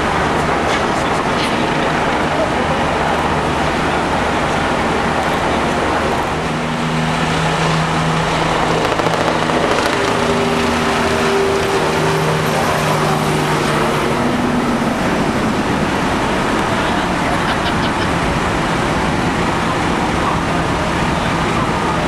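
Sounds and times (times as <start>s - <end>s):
fire engine pumps droning: 0.0s - 22.0s.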